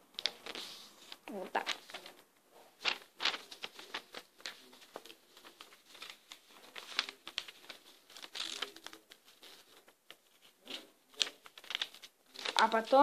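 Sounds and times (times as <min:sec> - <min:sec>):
paper rustling and creasing: 0:00.1 - 0:13.0.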